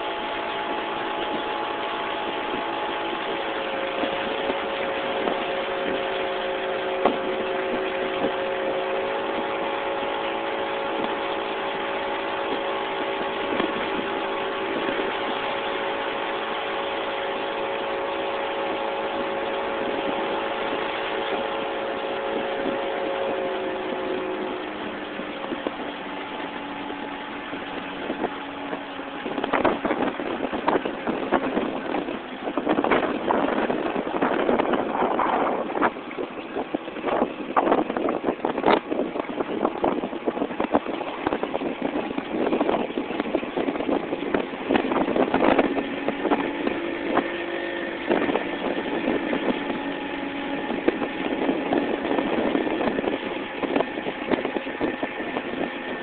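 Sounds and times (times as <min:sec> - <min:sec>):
boat engine hum: 0:00.0 - 0:56.0
gusty rushing noise: 0:00.0 - 0:56.0.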